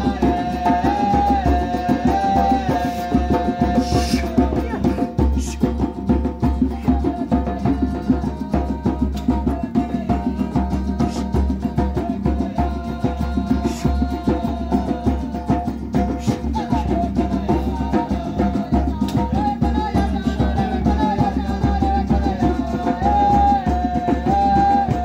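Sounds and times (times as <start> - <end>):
drums and percussion: 0.0 - 25.0.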